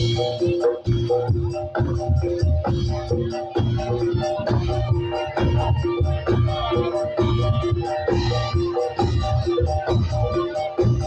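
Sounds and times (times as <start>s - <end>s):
deep drum beat: 0.0s - 11.0s.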